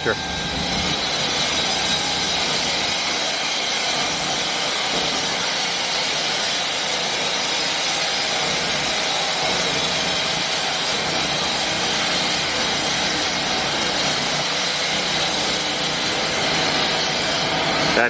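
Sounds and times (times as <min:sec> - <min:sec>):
construction machine hiss: 0:00.0 - 0:18.0
high steady machine whine: 0:00.0 - 0:18.0.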